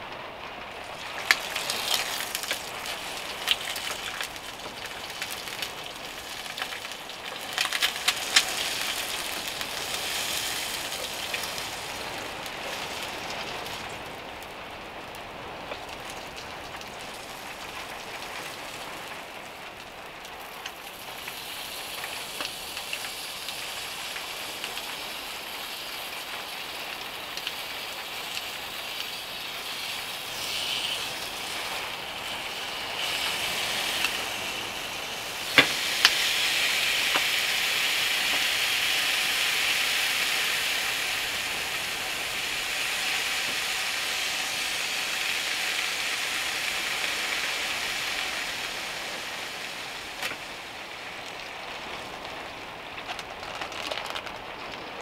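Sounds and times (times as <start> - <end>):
food sizzling in a pan: 0.8 - 53.2.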